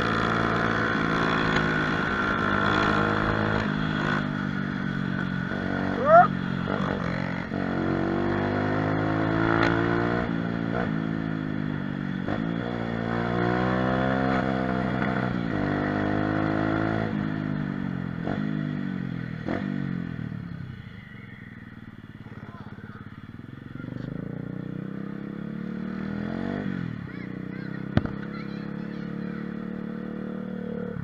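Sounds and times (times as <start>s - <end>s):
small motorbike engine revving: 0.0s - 31.0s.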